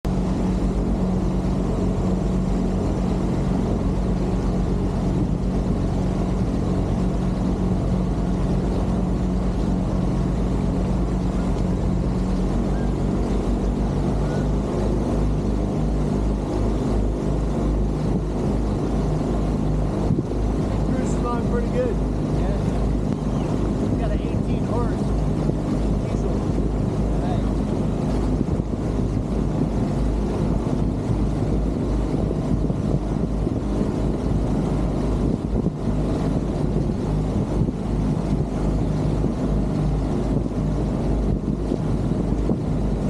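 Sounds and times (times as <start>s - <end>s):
boat engine droning: 0.0s - 43.0s
water washing along hull: 0.0s - 43.0s.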